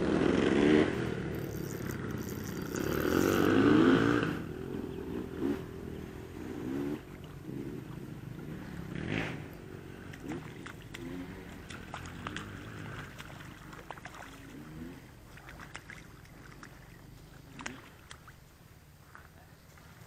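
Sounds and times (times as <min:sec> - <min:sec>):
motorbike engines revving: 0:00.0 - 0:18.1.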